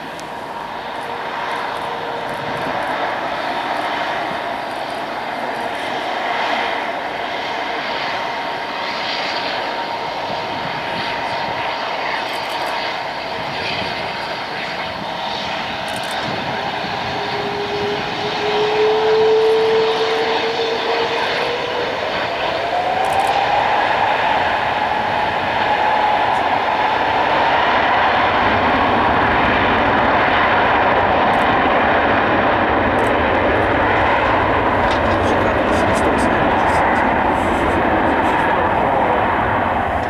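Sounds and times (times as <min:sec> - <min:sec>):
jet engines running with whine: 0:00.0 - 0:40.0.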